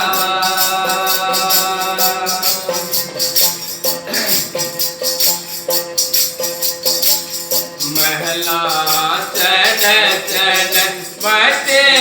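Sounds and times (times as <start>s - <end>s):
melody instrument held notes: 0.0s - 11.4s
steady percussion beat: 0.0s - 12.0s.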